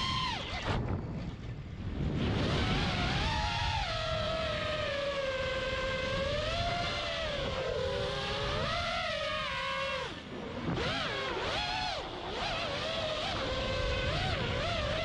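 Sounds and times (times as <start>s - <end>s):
quadcopter motors whining: 0.0s - 1.1s, 2.0s - 15.0s
wind rumbling on microphone: 0.0s - 15.0s.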